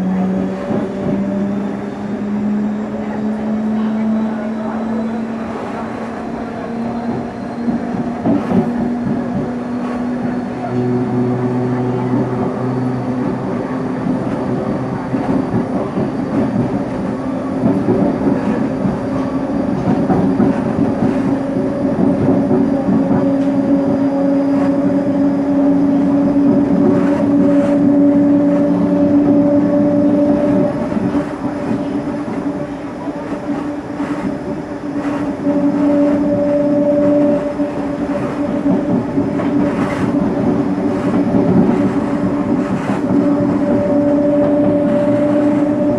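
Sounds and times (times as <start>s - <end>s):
electric train motor hum: 0.0s - 45.9s
train wheel rumble: 0.0s - 45.9s.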